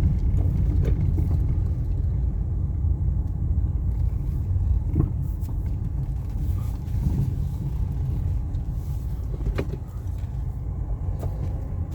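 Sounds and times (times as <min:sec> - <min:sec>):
car road rumble: 0:00.0 - 0:11.9.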